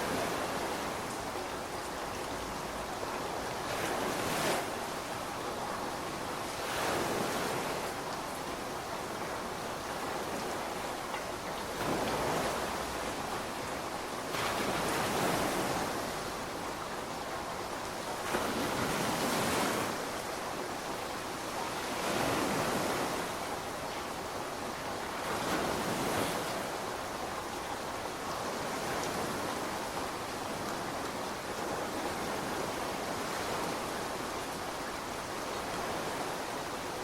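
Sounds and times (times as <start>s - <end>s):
steady rainfall: 0.0s - 37.0s.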